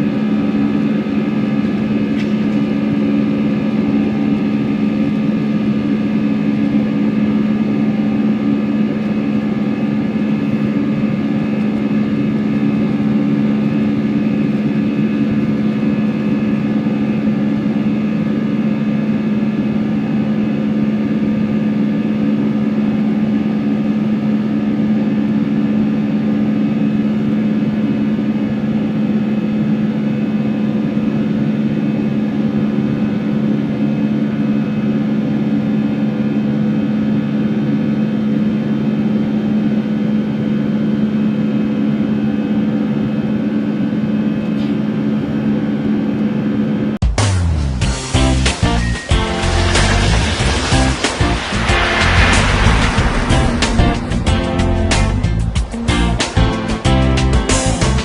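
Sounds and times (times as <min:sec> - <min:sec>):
jet engine drone in cabin: 0:00.0 - 0:47.0, 0:47.8 - 0:58.0.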